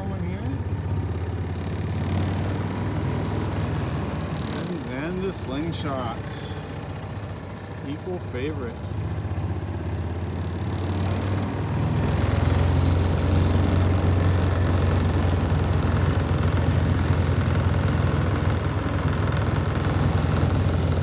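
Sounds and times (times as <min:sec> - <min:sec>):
utility vehicle engine humming: 0:00.0 - 0:21.0.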